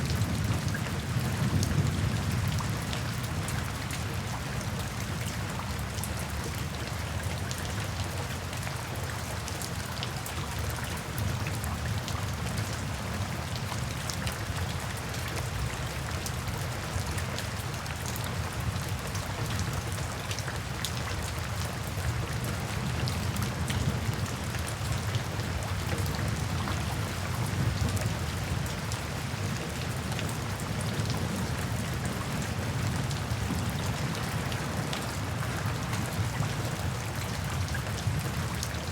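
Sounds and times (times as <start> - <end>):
rain falling in a forest: 0.0 - 38.9.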